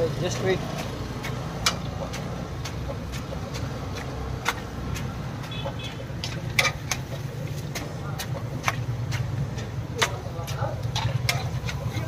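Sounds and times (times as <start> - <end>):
battered food deep-frying in oil: 0.0 - 12.0.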